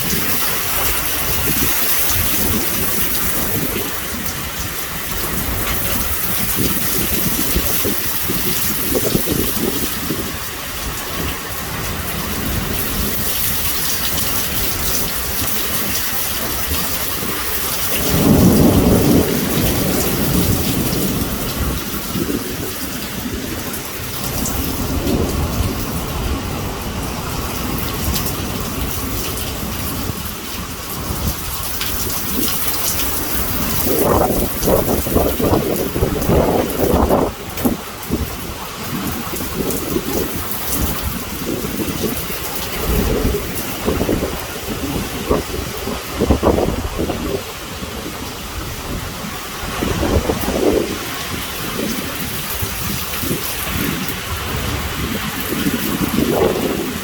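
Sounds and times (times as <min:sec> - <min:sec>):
heavy rain pouring: 0:00.0 - 0:57.0
loud thunderclap: 0:00.0 - 0:57.0
thunder rumbling: 0:00.0 - 0:57.0.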